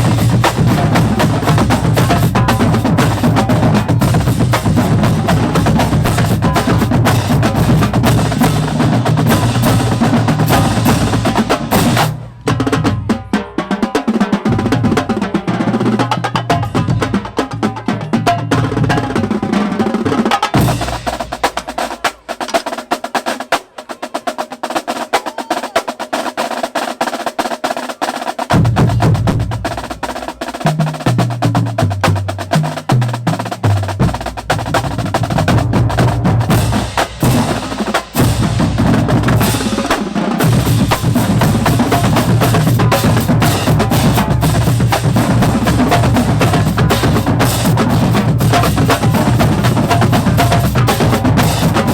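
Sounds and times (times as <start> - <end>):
snare and tenor drums: 0.0 - 51.9.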